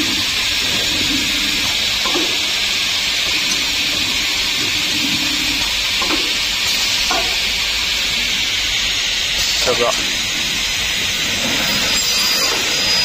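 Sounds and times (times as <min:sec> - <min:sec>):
milling machine hissing: 0:00.0 - 0:13.0.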